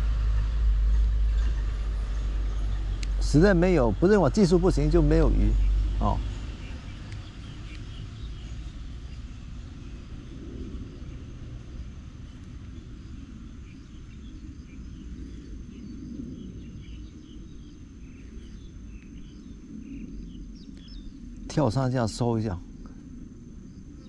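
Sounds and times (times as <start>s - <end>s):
fluttering low rumble: 0.0s - 24.0s.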